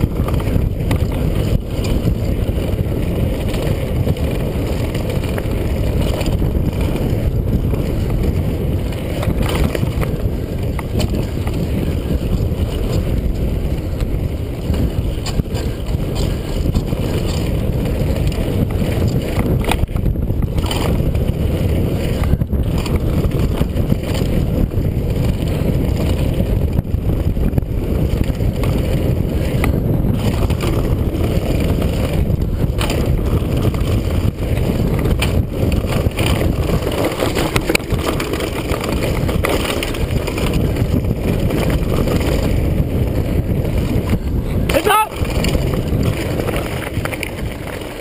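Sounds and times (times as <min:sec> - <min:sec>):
bike rattling over bumps: 0:00.0 - 0:48.0
wind and tyres rumbling: 0:00.0 - 0:48.0.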